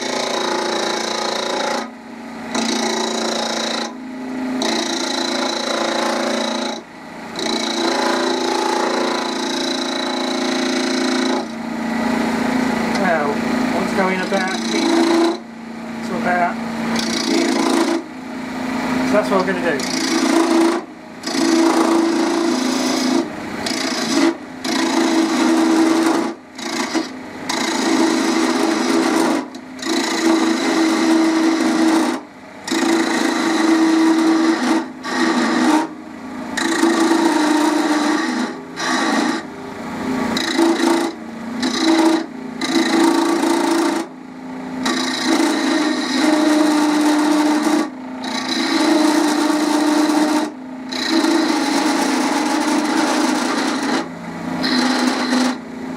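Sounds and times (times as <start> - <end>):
lathe tool scraping wood: 0.0 - 1.9, 2.5 - 4.0, 4.6 - 18.1, 18.7 - 39.5, 40.2 - 44.1, 44.8 - 55.6
lathe motor hum: 0.0 - 55.9.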